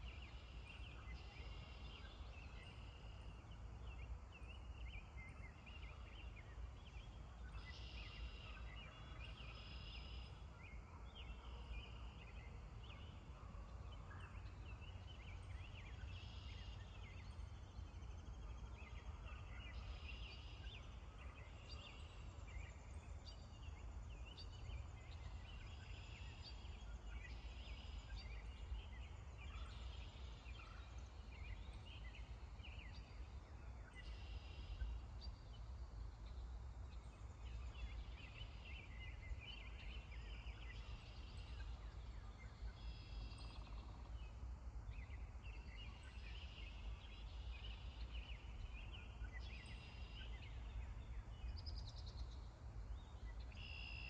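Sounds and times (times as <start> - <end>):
faint low rumble: 0.0 - 54.0.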